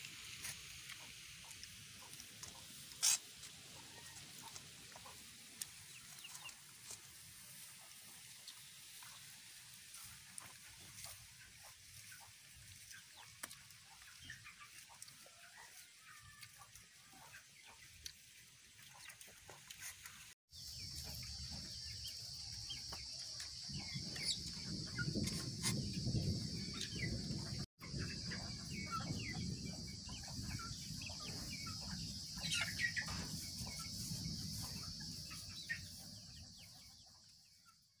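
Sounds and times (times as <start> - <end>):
chickens clucking: 0.1 - 38.0.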